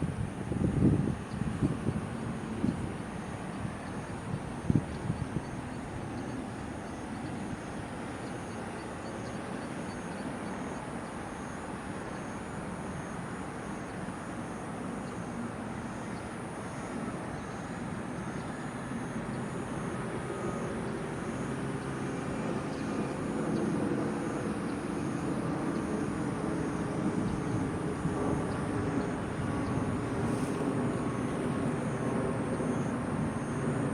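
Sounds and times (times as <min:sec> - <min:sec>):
distant traffic: 0:00.0 - 0:33.9.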